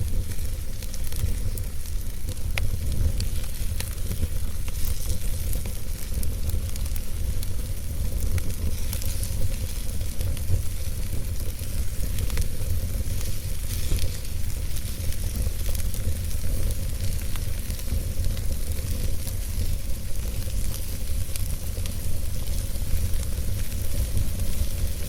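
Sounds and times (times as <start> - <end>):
campfire burning: 0.0 - 25.0.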